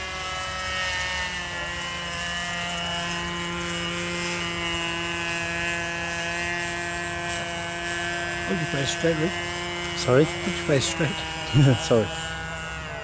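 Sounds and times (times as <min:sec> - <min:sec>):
model aircraft motor whine: 0:00.0 - 0:13.0.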